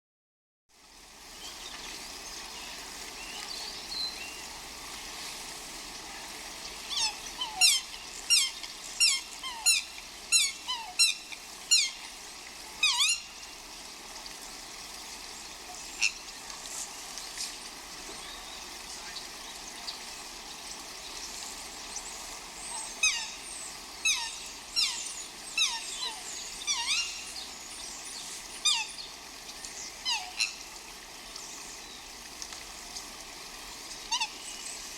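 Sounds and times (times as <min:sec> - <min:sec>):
brook running: 0:00.7 - 0:34.9.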